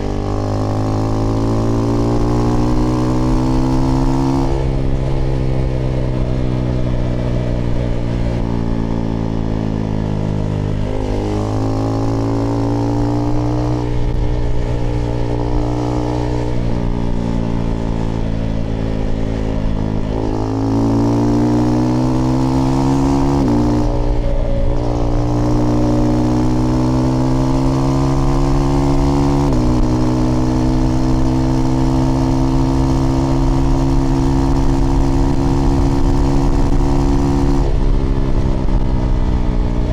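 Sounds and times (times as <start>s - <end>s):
motorcycle engine with gear shifts: 0.0s - 39.9s.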